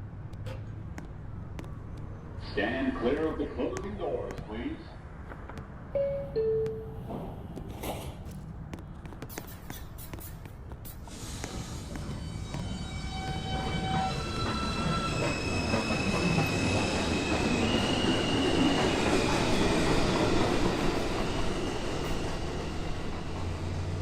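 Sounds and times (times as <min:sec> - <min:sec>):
train rumble: 0:00.0 - 0:24.0
subway train motors whining: 0:02.2 - 0:08.7, 0:11.0 - 0:24.0.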